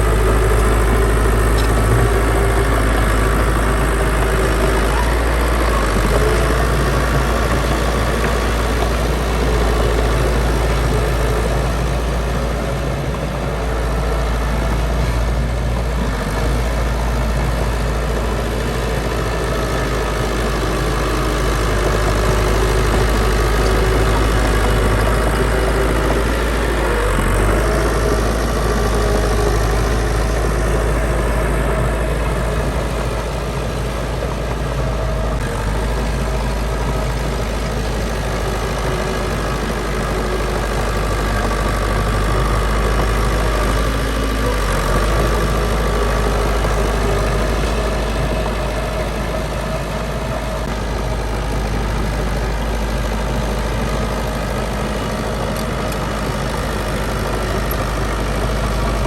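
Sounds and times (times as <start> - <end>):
diesel engine rumbling at low revs: 0.0 - 59.0.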